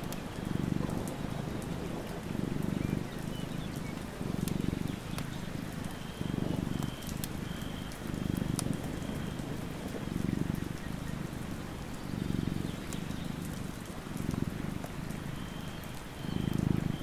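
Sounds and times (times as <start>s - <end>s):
cat purring: 0.0s - 17.0s
rain pattering: 0.0s - 17.0s.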